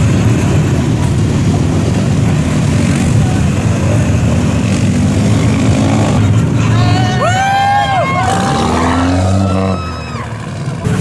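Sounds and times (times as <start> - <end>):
large engine running: 0.0 - 11.0.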